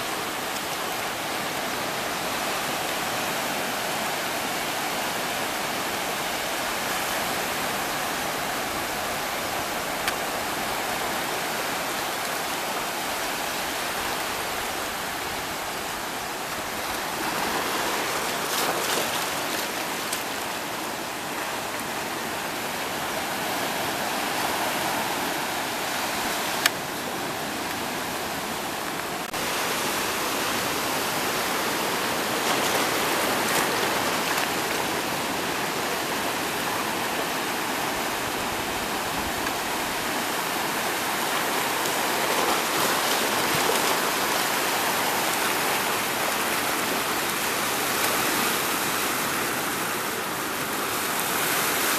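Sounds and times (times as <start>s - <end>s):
waves breaking on rocks: 0.0s - 51.9s.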